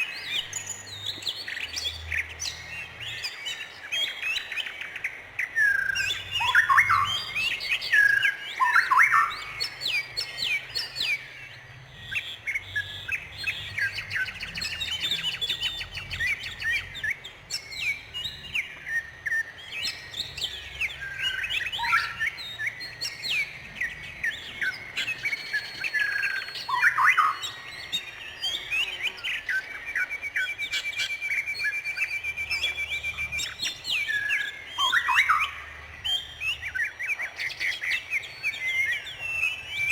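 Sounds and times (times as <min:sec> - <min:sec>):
rapid bird trill: 0:00.0 - 0:39.9
songbirds chirping and singing: 0:00.0 - 0:39.9.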